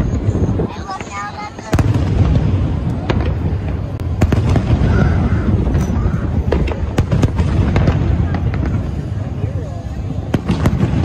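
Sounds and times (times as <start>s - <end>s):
fireworks bangs and crackles: 0.0s - 11.0s
fireworks booming: 0.0s - 11.0s.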